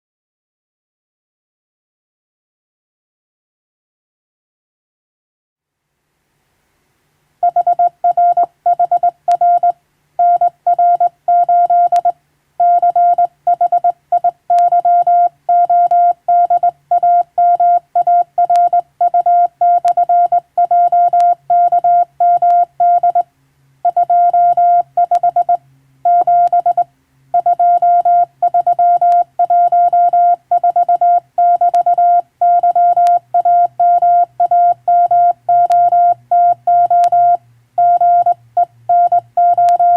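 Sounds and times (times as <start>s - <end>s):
morse code tone: 7.4s - 39.9s.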